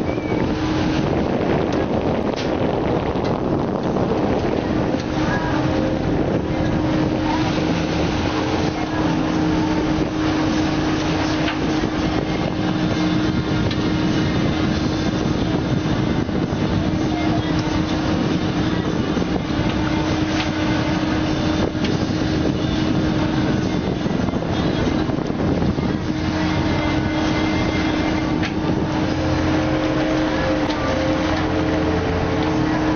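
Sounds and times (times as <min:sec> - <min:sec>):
boat engine humming: 0:00.0 - 0:32.9
water noise: 0:00.0 - 0:32.9
wind: 0:00.0 - 0:32.9.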